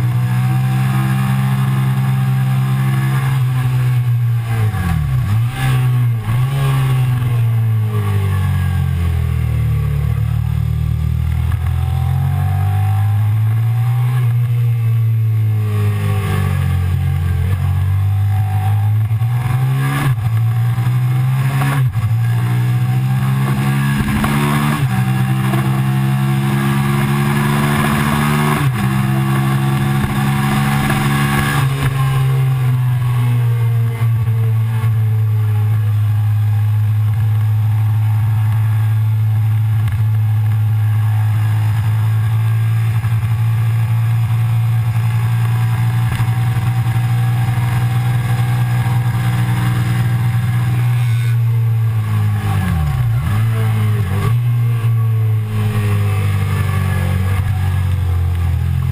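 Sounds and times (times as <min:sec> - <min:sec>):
motorcycle engine running hard: 0:00.0 - 0:58.9.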